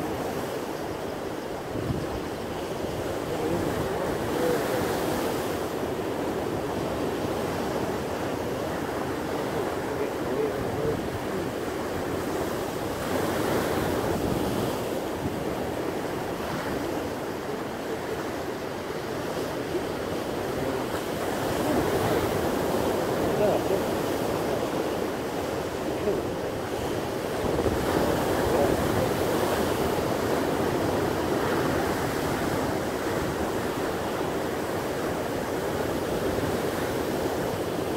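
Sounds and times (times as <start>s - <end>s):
surf breaking over rocks: 1.4s - 37.9s
wind buffeting microphone: 1.6s - 37.9s.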